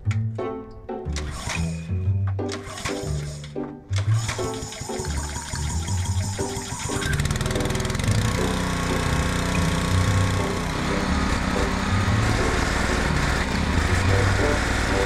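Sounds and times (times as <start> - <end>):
background music: 0.0 - 15.0
pressure washer engine running: 2.5 - 15.0.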